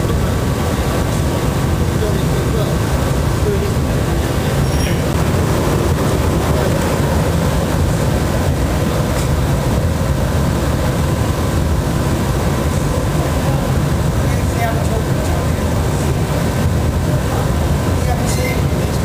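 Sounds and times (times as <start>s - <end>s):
gas furnace roar: 0.0s - 19.0s.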